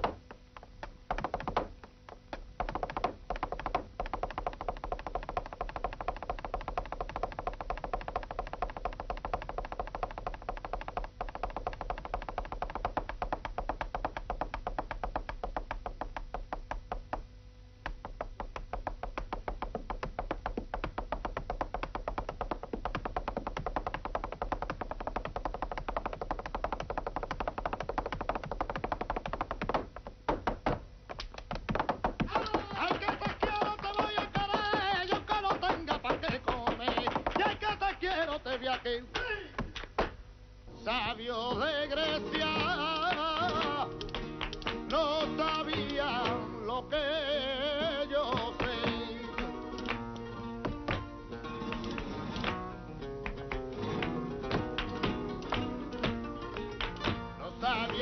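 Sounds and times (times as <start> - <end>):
heeled boots striking floor: 0.0 - 38.8, 41.5 - 46.7, 47.6 - 58.0.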